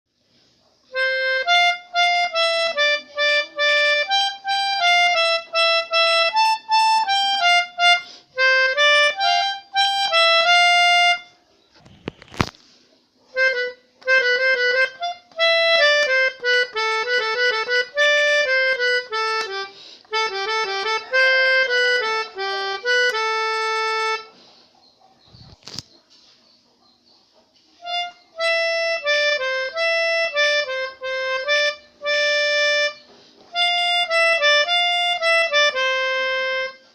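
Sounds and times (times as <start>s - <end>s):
melodica playing melodies: 0.9s - 11.4s, 13.4s - 24.4s, 27.8s - 36.9s.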